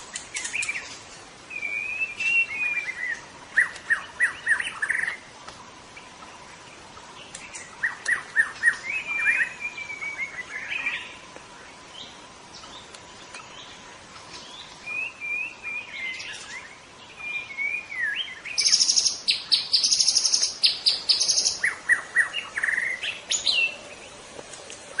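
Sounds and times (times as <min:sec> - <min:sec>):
songbird singing varied song: 0:00.0 - 0:25.0.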